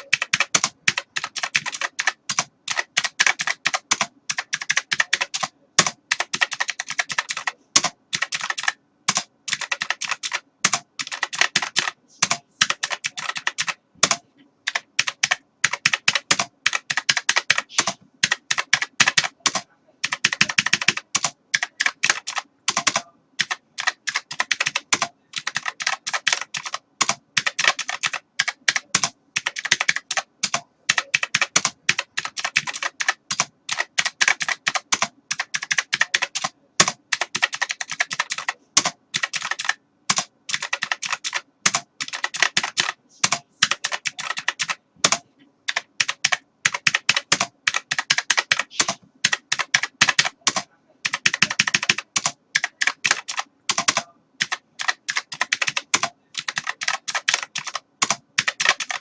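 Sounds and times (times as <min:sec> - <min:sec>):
keyboard typing clicks: 0:00.0 - 0:59.0.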